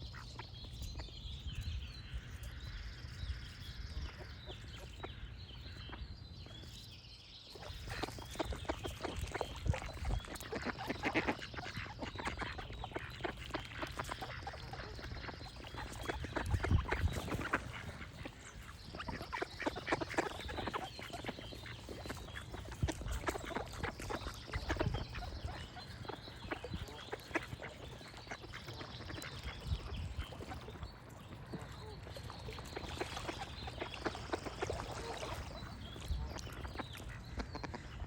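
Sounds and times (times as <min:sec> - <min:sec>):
birds singing: 0:00.0 - 0:38.0.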